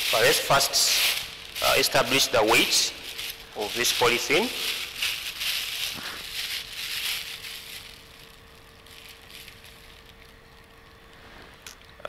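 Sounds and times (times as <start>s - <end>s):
faint steady hum: 0.0s - 12.0s
plastic bag crinkling: 0.0s - 12.0s.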